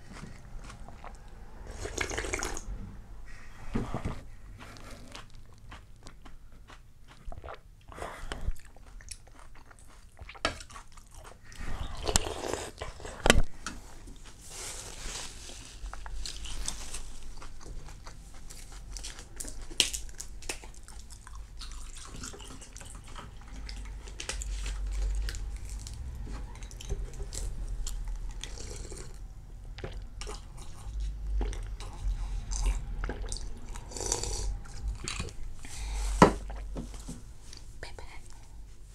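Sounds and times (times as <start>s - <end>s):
crunchy chewing: 0.0s - 2.7s, 4.4s - 14.7s, 15.8s - 36.7s.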